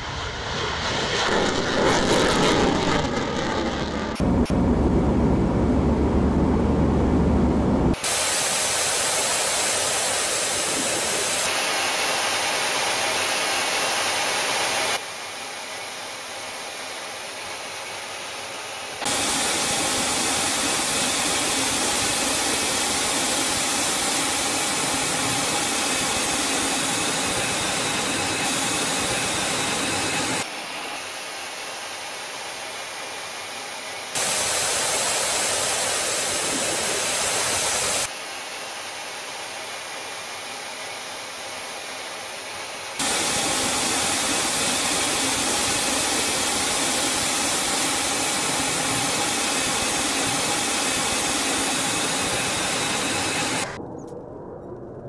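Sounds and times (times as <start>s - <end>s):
jet aircraft engine noise: 0.0s - 55.0s.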